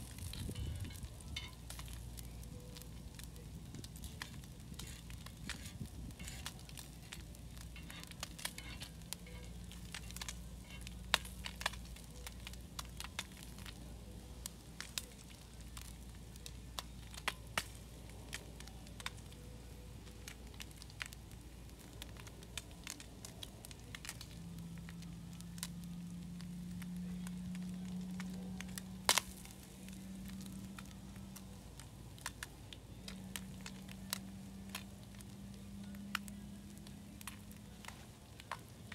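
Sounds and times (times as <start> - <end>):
fat crackling and popping: 0.0 - 38.9
low steady hum: 0.0 - 38.9
meat frying on griddle: 0.0 - 38.9.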